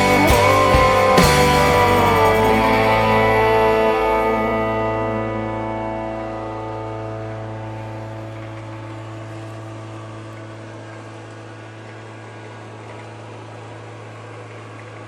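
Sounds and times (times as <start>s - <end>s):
guitar song: 0.0s - 14.5s.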